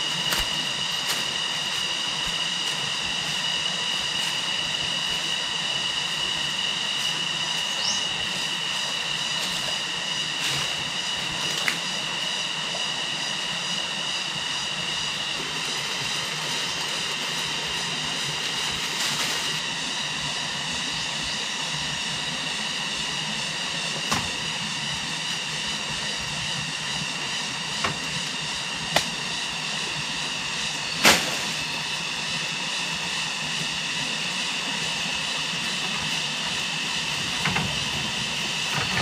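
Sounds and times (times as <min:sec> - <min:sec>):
high-pitched drone: 0:00.0 - 0:39.0.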